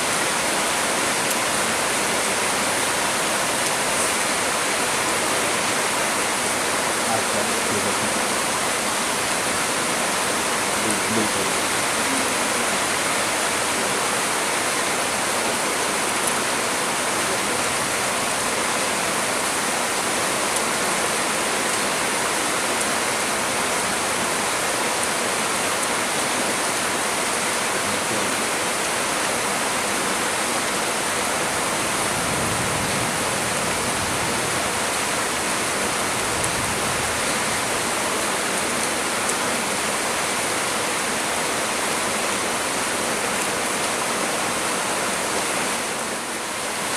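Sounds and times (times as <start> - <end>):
heavy rain on trees: 0.0 - 46.9.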